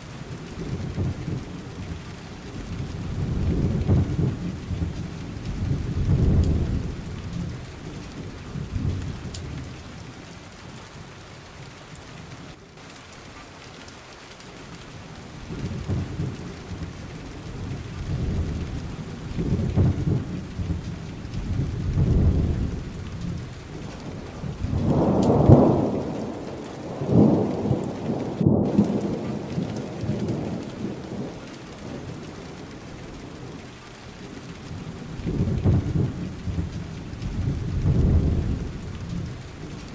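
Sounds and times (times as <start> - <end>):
steady rain: 0.0 - 39.9
rolling thunder: 0.2 - 10.3, 15.4 - 33.6, 34.2 - 39.9.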